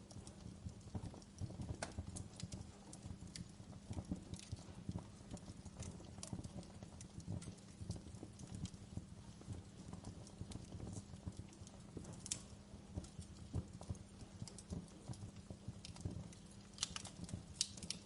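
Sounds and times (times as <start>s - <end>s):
logs crackling in fireplace: 0.0s - 18.0s
low rumble of flame: 0.0s - 18.0s.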